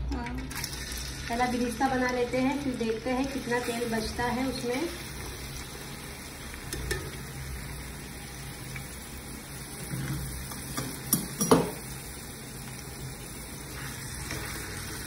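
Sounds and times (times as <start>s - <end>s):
oil sizzling in a pan: 0.4s - 15.0s.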